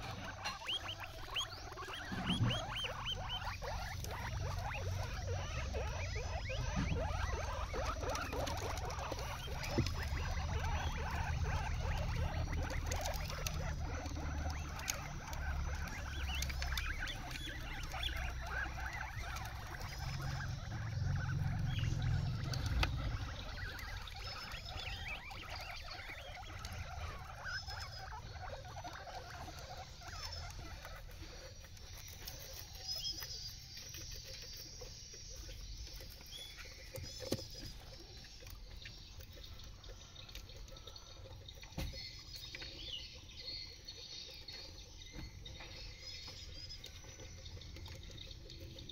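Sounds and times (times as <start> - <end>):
guinea pig chewing greens: 0.0 - 48.9.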